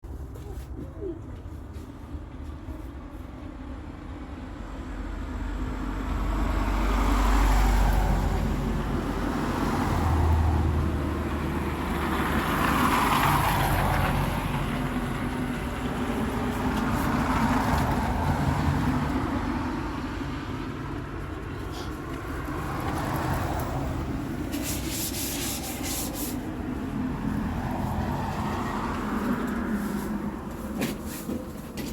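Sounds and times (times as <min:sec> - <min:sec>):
vehicles passing: 0:00.1 - 0:31.9.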